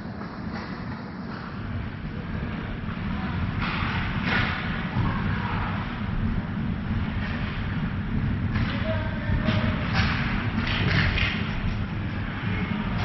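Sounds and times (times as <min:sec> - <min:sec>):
low arena rumble: 0:00.0 - 0:13.0.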